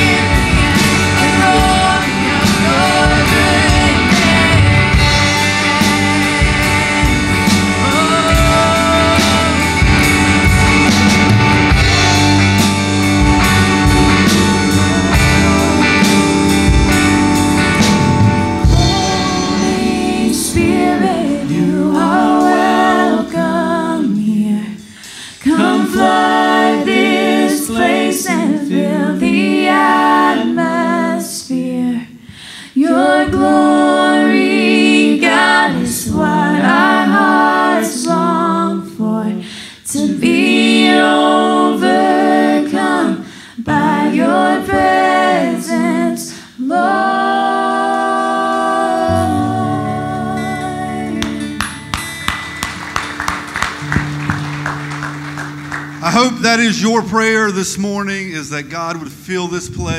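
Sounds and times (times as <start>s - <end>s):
worship band playing: 0.0s - 31.1s, 39.4s - 59.9s
congregation singing a cappella: 0.0s - 51.6s.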